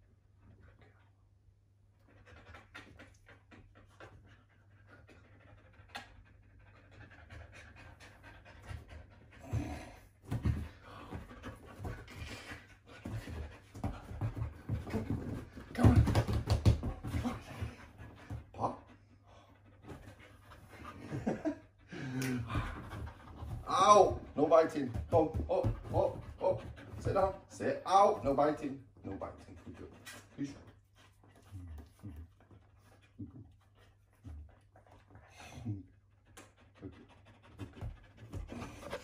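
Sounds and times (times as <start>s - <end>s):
dog panting: 1.9s - 39.0s.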